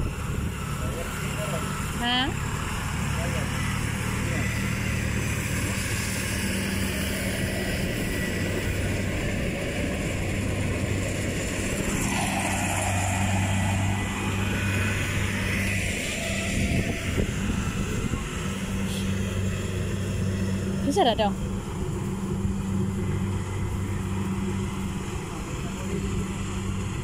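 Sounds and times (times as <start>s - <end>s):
tractor diesel engine idling: 0.0s - 27.0s
rushing noise: 2.4s - 27.0s.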